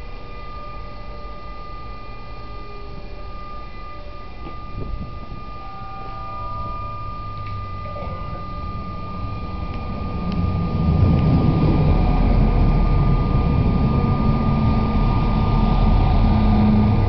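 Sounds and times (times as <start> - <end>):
high whine: 0.0 - 17.0
train engine drone and wheel rumble: 0.0 - 17.0.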